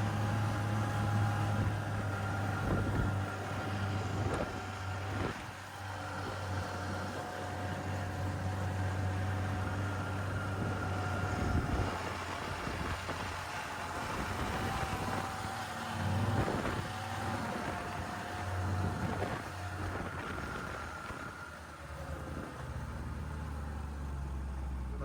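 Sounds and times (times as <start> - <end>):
snowmobile engine droning: 0.0 - 25.0.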